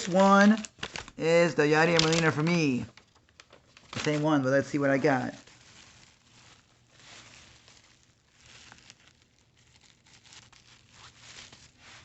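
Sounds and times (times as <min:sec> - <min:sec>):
card package crinkling: 0:00.0 - 0:12.0.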